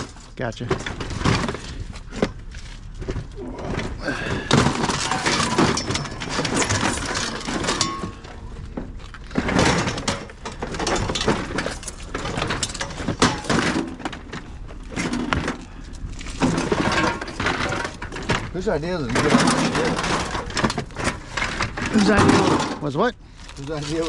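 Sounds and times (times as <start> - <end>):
metal junk clanking: 0.0 - 24.0.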